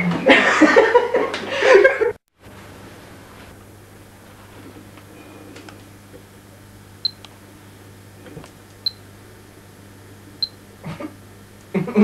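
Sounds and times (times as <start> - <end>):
low steady hum: 1.6 - 12.0.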